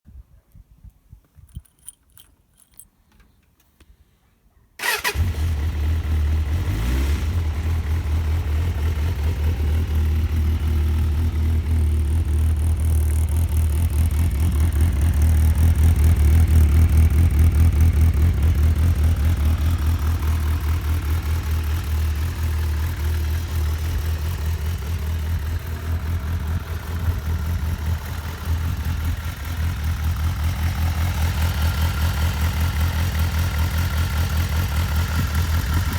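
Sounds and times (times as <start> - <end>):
motorcycle engine starting and idling: 4.8 - 35.9.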